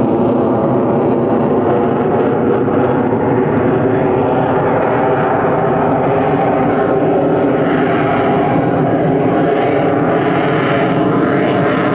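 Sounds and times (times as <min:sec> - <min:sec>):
jet roar: 0:00.0 - 0:11.9.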